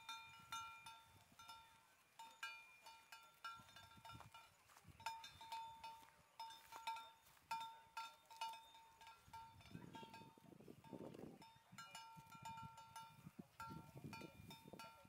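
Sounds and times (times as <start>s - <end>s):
cow bell clinking: 0.0s - 15.0s.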